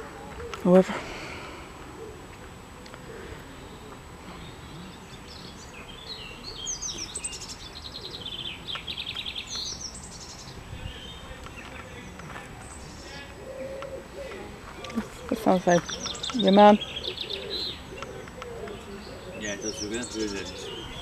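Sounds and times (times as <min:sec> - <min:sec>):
low background noise: 0:00.0 - 0:21.0
songbird singing trills: 0:03.5 - 0:21.0.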